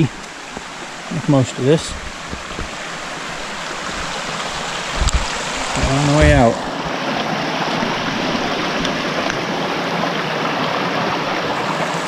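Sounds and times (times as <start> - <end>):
stream flowing over boulders: 0.0 - 12.0.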